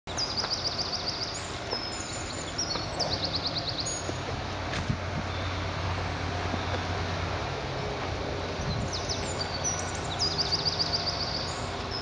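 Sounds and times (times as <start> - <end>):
outdoor background noise: 0.1 - 12.0.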